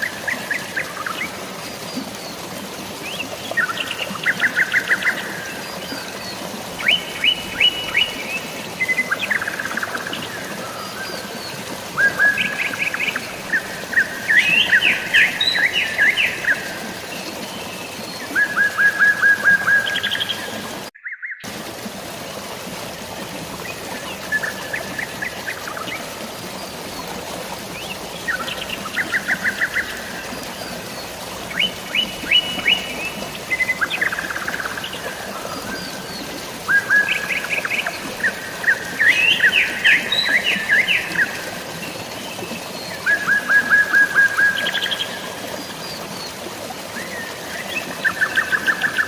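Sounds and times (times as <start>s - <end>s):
songbirds singing: 0.0s - 21.5s, 23.5s - 46.3s
rain and running water: 0.0s - 49.0s.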